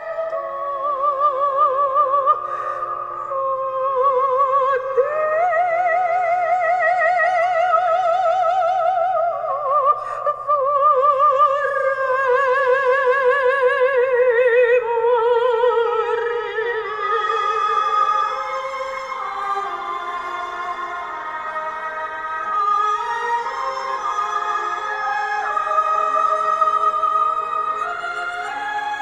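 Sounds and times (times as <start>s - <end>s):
operatic singing with vibrato: 0.0s - 29.0s.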